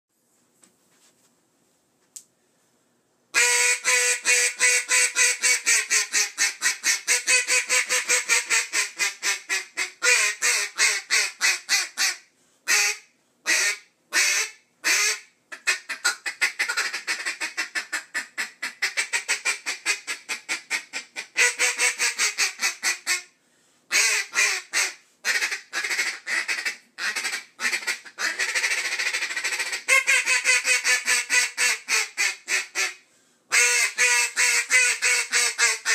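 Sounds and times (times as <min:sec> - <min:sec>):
duck call quacks: 0:03.4 - 0:23.3, 0:23.9 - 0:35.9.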